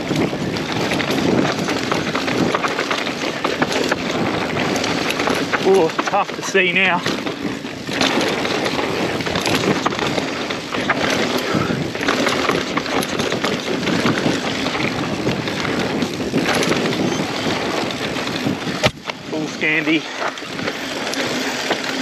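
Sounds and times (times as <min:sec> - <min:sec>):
bike rattles and knocks: 0:00.0 - 0:22.0
bike tyre noise: 0:00.0 - 0:22.0
wind buffeting microphone: 0:00.0 - 0:22.0.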